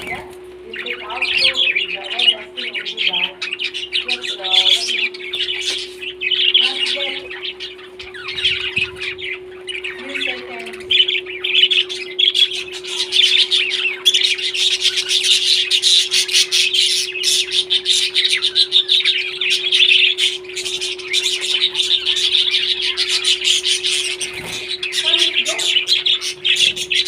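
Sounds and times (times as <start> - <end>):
parrots chattering and squawking: 0.0 - 27.0
steady hum: 0.0 - 27.0.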